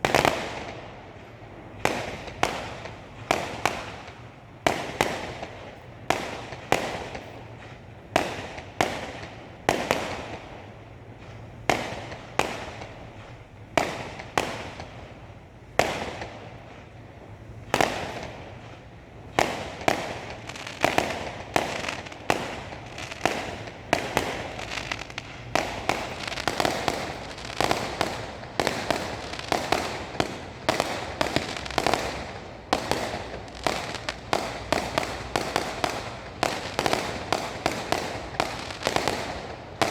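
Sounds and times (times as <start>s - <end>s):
fireworks exploding: 0.0s - 39.9s.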